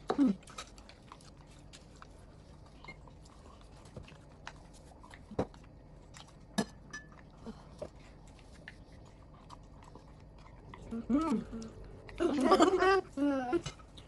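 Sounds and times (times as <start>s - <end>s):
children chewing food: 0.0s - 14.0s.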